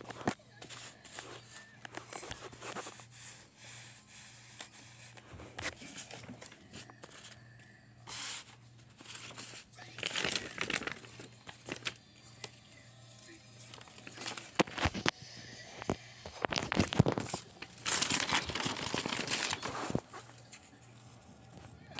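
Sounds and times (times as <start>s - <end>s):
paper rustling and crinkling: 0.0s - 3.1s, 4.4s - 7.4s, 8.1s - 12.6s, 13.6s - 15.2s, 15.8s - 21.8s.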